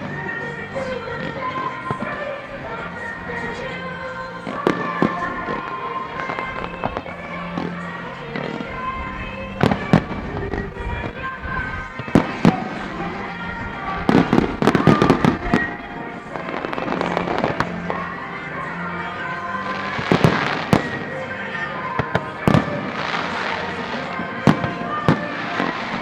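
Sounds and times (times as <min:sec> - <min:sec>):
fireworks bangs and crackle: 0:00.0 - 0:26.0
music playing: 0:00.0 - 0:26.0.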